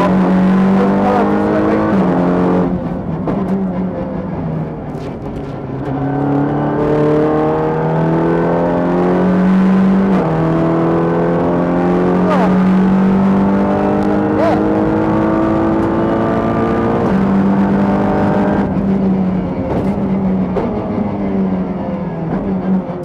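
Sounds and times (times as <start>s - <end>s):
race car engine pulling hard: 0.0s - 23.0s.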